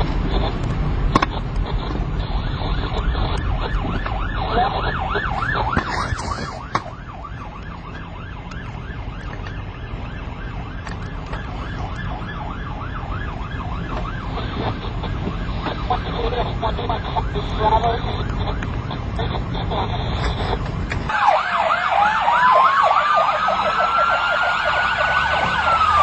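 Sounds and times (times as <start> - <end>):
low vehicle rumble: 0.0 - 26.0
police siren yelping: 1.4 - 26.0.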